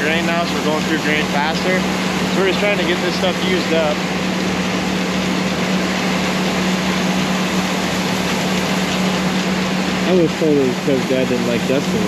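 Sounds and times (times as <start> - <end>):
grinder-mixer augering grain: 0.0 - 12.0.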